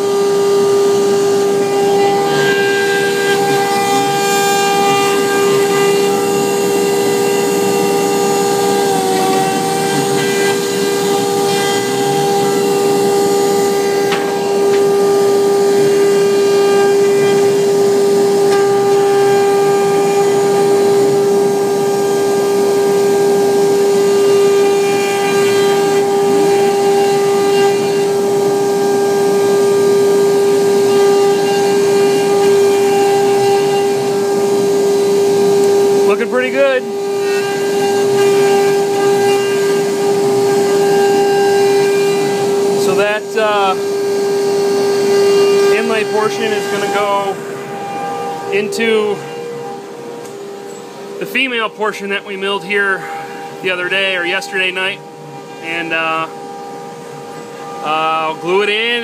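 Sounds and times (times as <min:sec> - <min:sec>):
router spindle high whine: 0:00.0 - 0:59.0.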